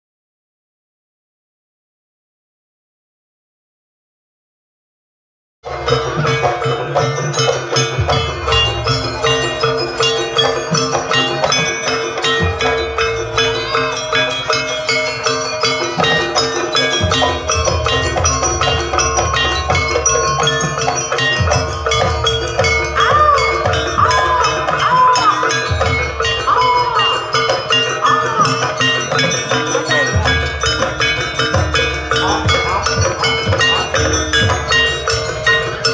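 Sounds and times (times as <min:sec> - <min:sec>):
drums: 0:05.6 - 0:35.9
held steady note: 0:05.7 - 0:35.9
metallophones striking ringing notes: 0:05.7 - 0:35.9.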